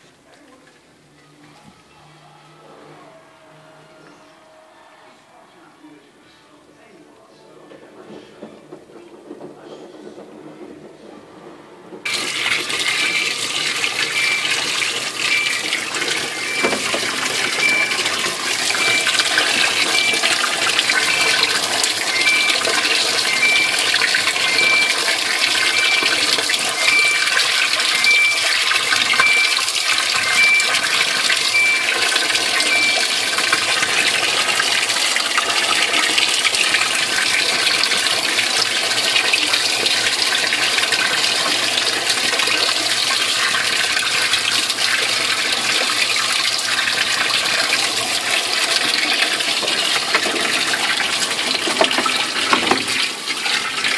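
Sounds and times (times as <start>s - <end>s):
water gushing into washing machine: 7.6s - 53.9s.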